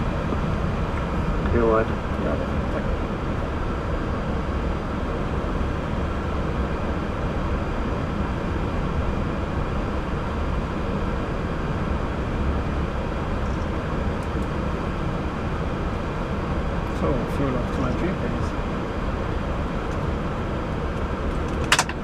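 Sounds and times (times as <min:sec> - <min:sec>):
low rumble: 0:00.0 - 0:21.5
ventilation hiss: 0:00.0 - 0:22.0.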